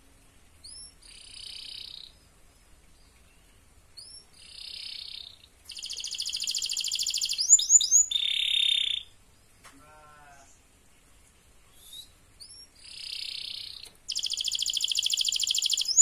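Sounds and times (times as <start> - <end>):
canary singing trills: 0.6 - 9.2, 11.7 - 16.0.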